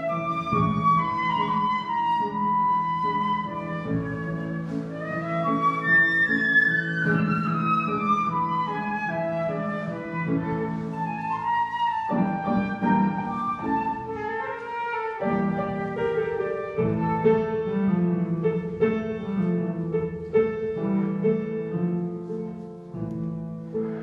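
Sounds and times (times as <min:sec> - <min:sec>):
instrumental music: 0:00.0 - 0:24.0.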